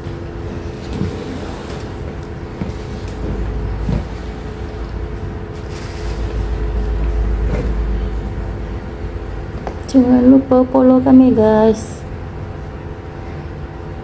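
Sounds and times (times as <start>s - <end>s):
low mechanical hum: 0.0s - 14.0s
deep rumble: 2.1s - 13.7s.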